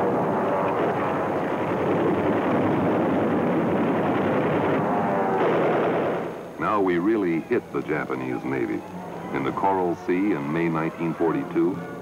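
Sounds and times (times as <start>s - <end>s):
warplane engine droning: 0.0s - 12.0s.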